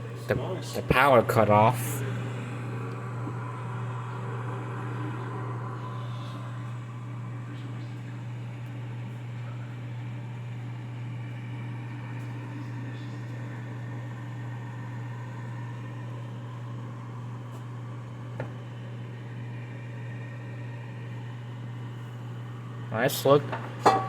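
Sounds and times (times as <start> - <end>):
microwave cooling fan humming: 0.0 - 24.0.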